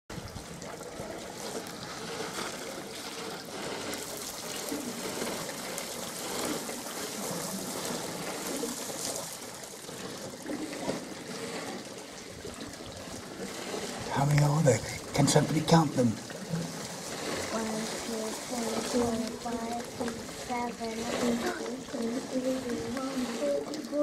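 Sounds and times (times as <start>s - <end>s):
water trickling and splashing: 0.1s - 24.0s.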